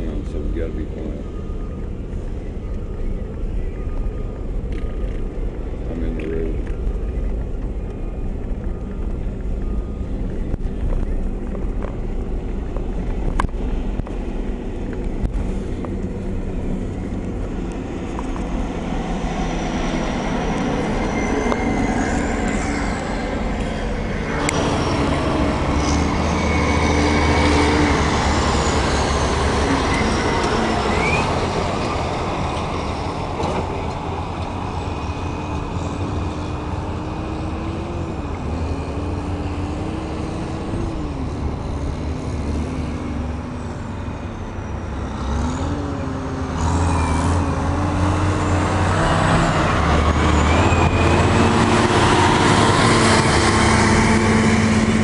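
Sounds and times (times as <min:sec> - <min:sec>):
heavy diesel machinery rumble: 0:00.0 - 0:55.0
vehicle driving on dirt: 0:00.0 - 0:55.0.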